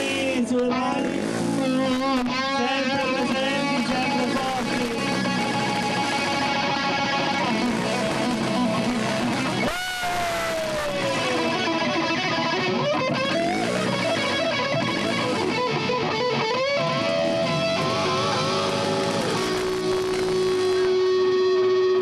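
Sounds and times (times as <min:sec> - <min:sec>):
guitar note bending: 0:00.0 - 0:22.0
live rock band: 0:00.0 - 0:22.0.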